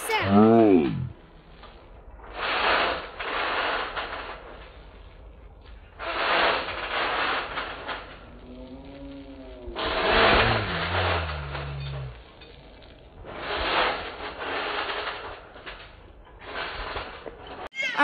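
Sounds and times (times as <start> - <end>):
trampoline springs creaking: 0.0 - 18.0.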